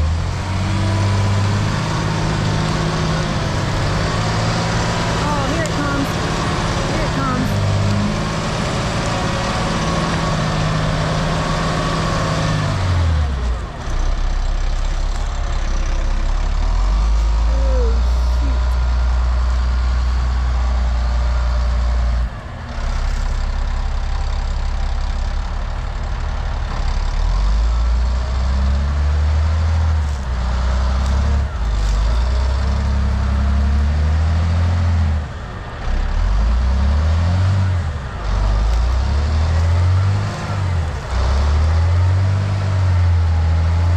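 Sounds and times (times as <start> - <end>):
diesel engine revving under load: 0.0 - 43.9.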